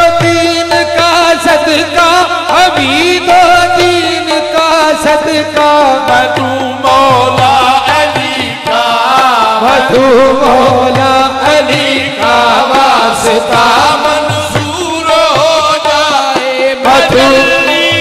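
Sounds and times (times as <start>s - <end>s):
harmonium: 0.0s - 18.0s
men singing: 0.0s - 18.0s.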